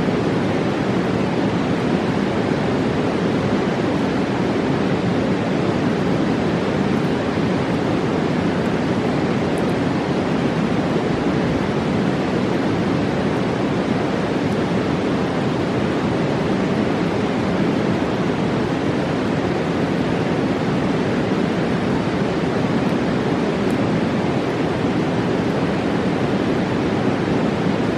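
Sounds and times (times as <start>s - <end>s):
river rushing: 0.0s - 27.9s.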